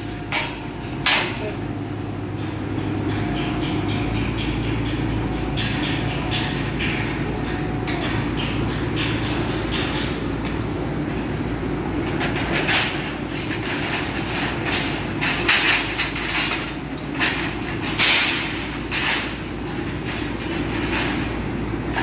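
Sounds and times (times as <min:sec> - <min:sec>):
low mechanical rumble: 0:00.0 - 0:22.0
rattles and knocks: 0:00.0 - 0:22.0.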